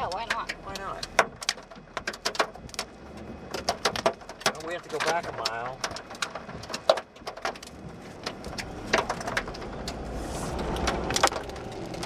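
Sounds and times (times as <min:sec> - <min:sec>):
car engine and road rumble: 0:00.0 - 0:12.0
rain ticking on windshield: 0:00.0 - 0:12.0.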